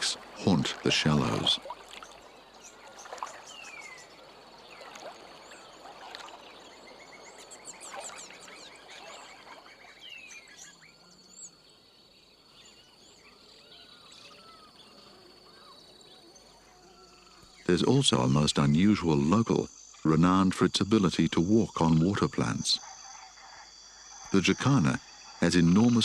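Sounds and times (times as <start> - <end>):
birds calling and trilling: 0.0 - 26.0.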